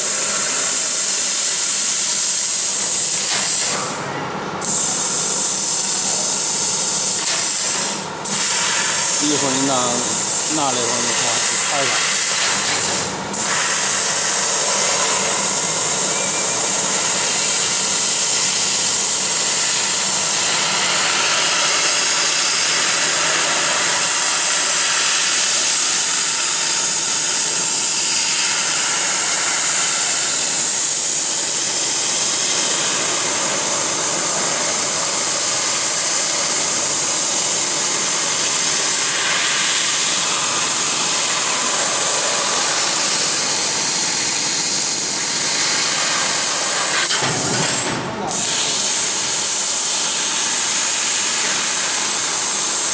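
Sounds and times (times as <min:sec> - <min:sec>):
laser cutter gas jet hiss: 0:00.0 - 0:52.9.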